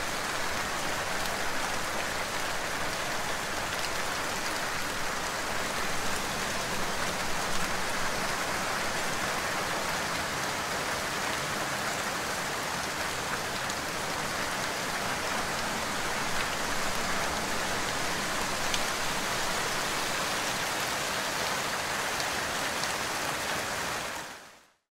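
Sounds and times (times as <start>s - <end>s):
steady rain hiss: 0.0s - 24.8s.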